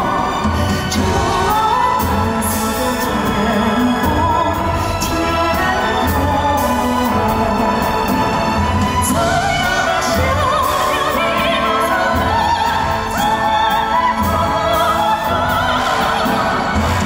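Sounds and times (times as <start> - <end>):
orchestral accompaniment: 0.0 - 17.0.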